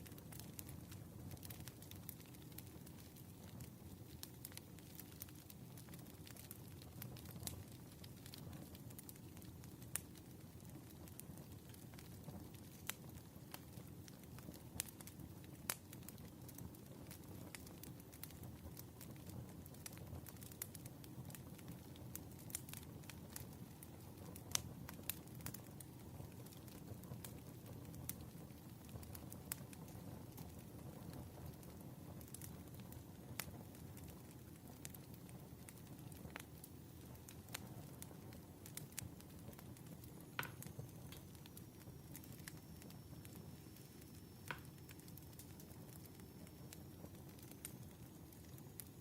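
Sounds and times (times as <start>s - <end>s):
burning logs rumbling: 0.0s - 48.9s
fire pops and snaps: 0.0s - 49.0s.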